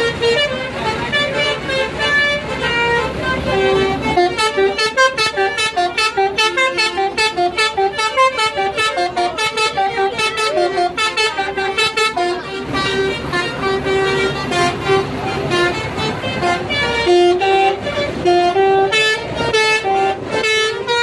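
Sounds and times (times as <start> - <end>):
bus horn playing a fast melody: 0.0 - 21.0.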